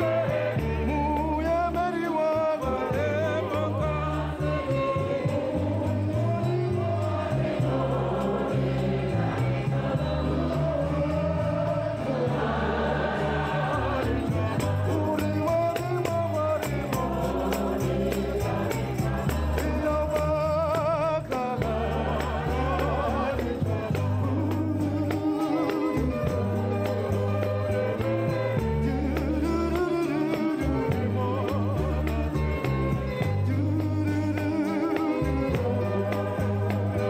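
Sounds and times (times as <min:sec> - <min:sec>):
choir singing gospel music: 0:00.0 - 0:37.0.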